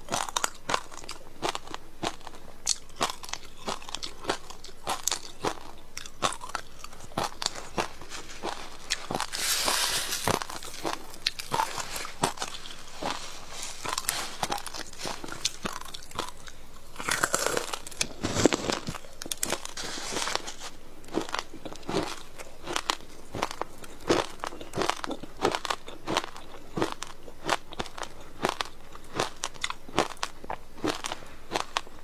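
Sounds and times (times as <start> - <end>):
person crunching frozen ice: 0.1 - 32.0.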